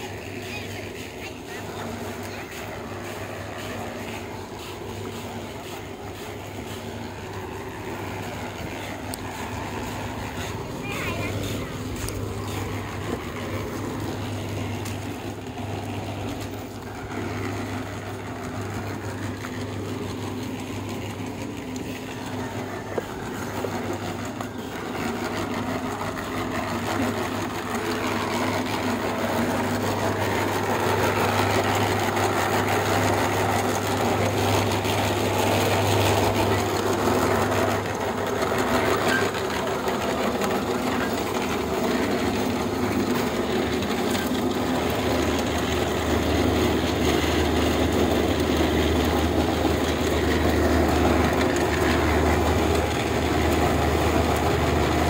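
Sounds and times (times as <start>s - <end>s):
concrete mixer motor humming: 0.0s - 55.0s.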